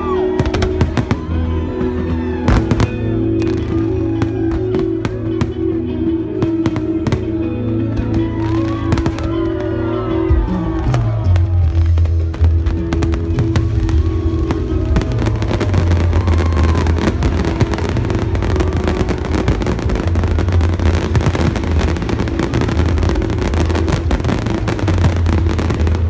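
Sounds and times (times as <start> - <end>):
fireworks bangs and crackle: 0.0 - 5.7, 6.4 - 7.4, 8.0 - 9.8, 10.5 - 26.0
music playing: 0.0 - 26.0.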